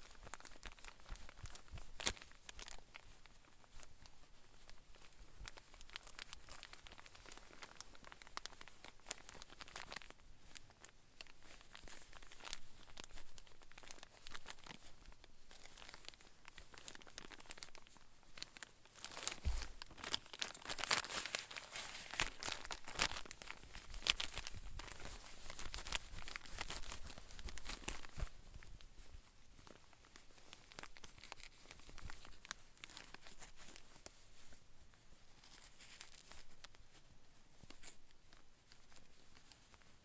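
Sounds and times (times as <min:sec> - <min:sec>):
crinkling handling noises: 0:00.0 - 0:40.0.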